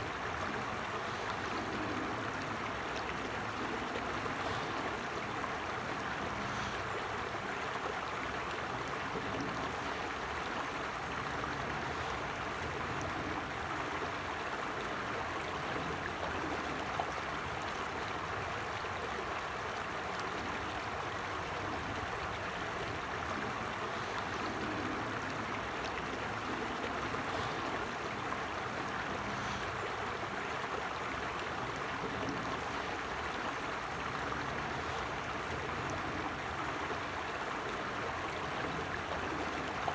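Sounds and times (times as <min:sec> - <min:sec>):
creek water babbling over stones: 0:00.0 - 0:39.9.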